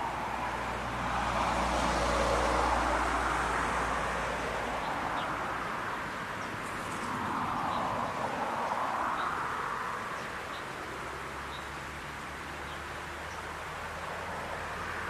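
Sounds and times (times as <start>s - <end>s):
traffic rushing past: 0.0s - 15.0s.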